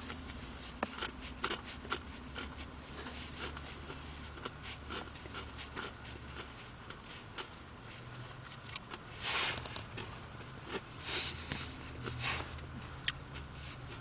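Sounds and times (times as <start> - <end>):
chewing crunchy potato chip: 0.0 - 14.0.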